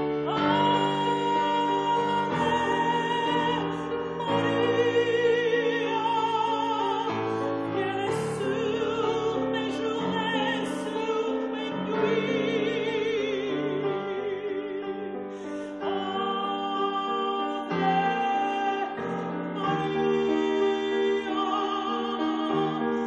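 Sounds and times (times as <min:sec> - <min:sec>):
grand piano: 0:00.0 - 0:23.0
woman singing operatically: 0:00.1 - 0:23.0.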